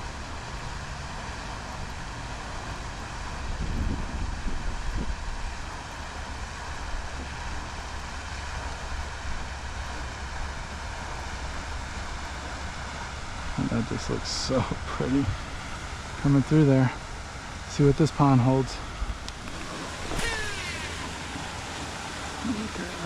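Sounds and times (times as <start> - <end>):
rushing outdoor noise: 0.0 - 23.0.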